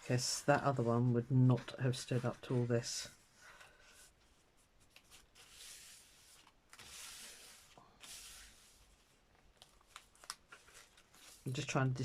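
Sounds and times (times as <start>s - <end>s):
soft rubbing on paper: 0.0s - 11.7s.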